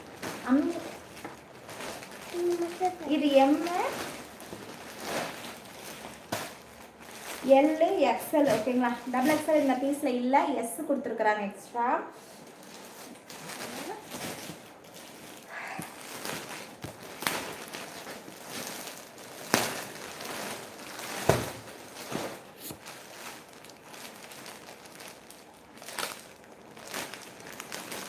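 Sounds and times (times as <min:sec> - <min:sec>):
cloth rustling: 0:00.0 - 0:10.2, 0:12.1 - 0:28.0
plastic packets crinkling: 0:00.0 - 0:10.3, 0:12.2 - 0:28.0.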